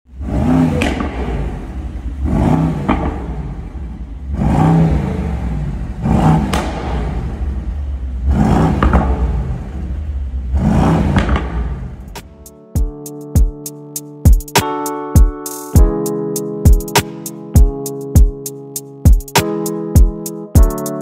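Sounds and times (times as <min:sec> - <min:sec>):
deep bass music: 0:00.1 - 0:21.0.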